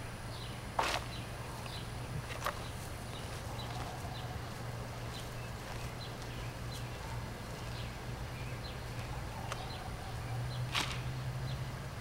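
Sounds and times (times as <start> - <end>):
low steady hum: 0.0 - 12.0
songbirds chirping: 0.0 - 12.0.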